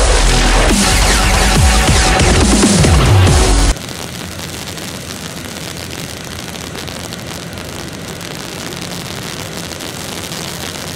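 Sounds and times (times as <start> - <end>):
car fire rushing and crackling: 0.0 - 10.9.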